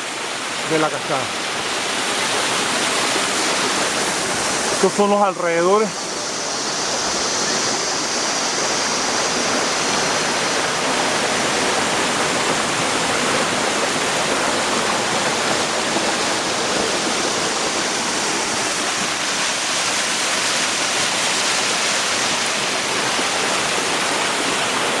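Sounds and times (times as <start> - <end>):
waterfall pouring into pool: 0.0 - 25.0.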